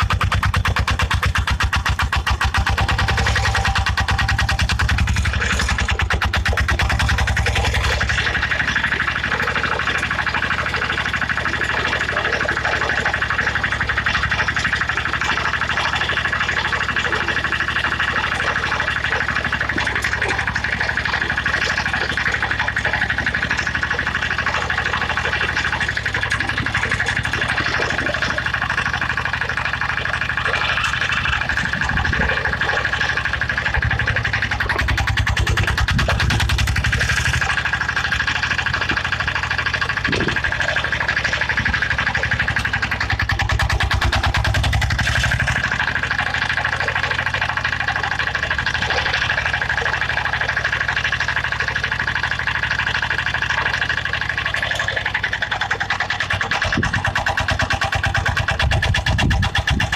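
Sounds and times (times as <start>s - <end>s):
small petrol engine running: 0.0s - 59.9s.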